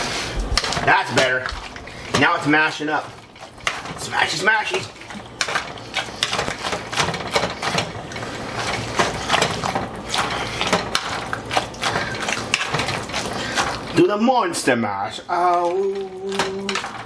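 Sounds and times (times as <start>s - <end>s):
potatoes being mashed in a pot: 0.2s - 17.0s
utensil knocking and scraping pot: 0.6s - 14.2s, 15.3s - 17.0s.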